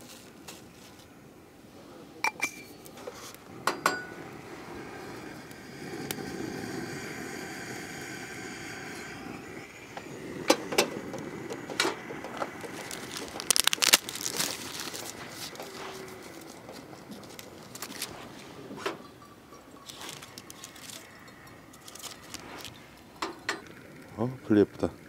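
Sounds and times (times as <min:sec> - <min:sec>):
gas torch hissing: 0:02.8 - 0:25.0.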